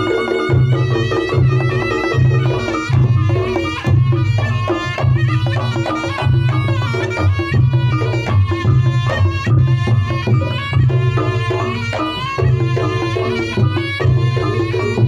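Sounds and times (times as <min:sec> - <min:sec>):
wavering shawm melody: 0:00.0 - 0:15.0.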